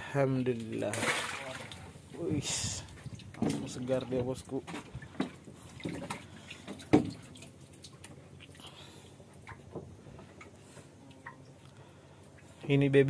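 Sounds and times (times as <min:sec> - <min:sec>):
water dripping and splashing: 0:00.3 - 0:12.6.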